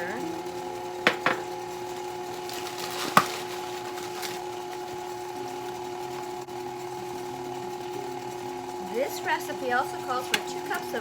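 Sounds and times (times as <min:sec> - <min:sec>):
electric mixer motor hum: 0:00.0 - 0:11.0.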